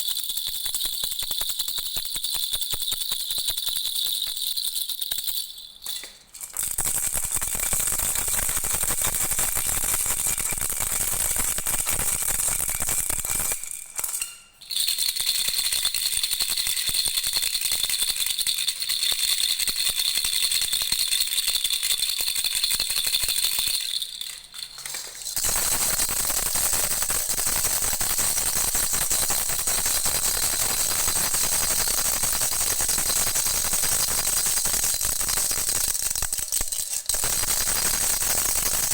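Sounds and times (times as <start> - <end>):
baby rattle jingling: 0.0 - 7.1, 13.6 - 38.8.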